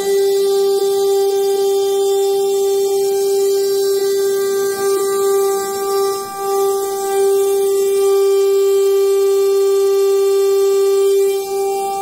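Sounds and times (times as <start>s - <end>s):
rotating warning siren tone: 0.0s - 12.0s.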